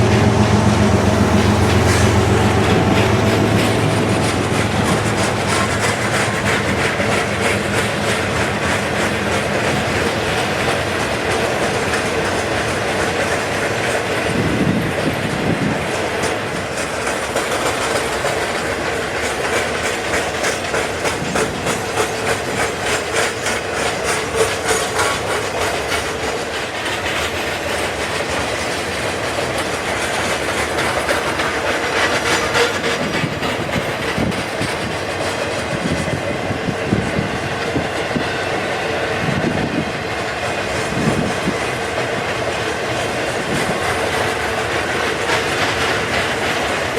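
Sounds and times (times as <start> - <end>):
train wheels clicking over rail joints: 0.0 - 46.9.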